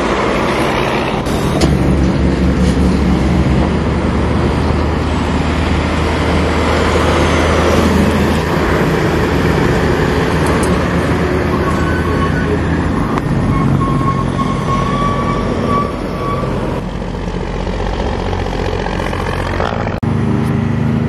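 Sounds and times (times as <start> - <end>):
traffic noise: 0.0 - 21.0
truck diesel engine droning: 0.0 - 21.0.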